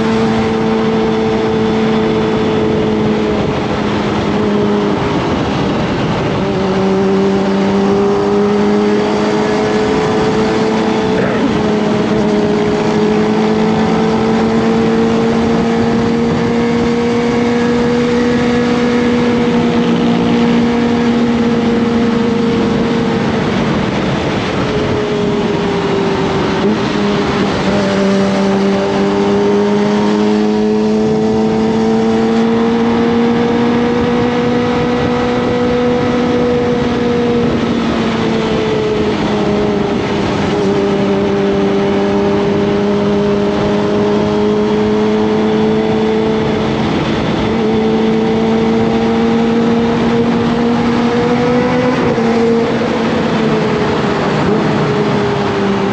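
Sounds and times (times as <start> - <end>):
constant rushing noise: 0.0 - 55.9
motorcycle engine running: 0.0 - 55.9.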